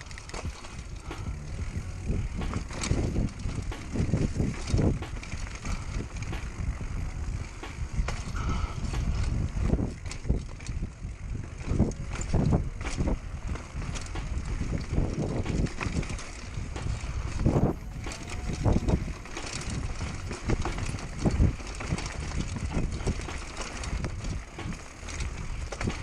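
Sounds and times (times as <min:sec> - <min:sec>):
bike knocking and clattering: 0:00.0 - 0:26.0
tyres rumbling over dirt: 0:00.0 - 0:26.0.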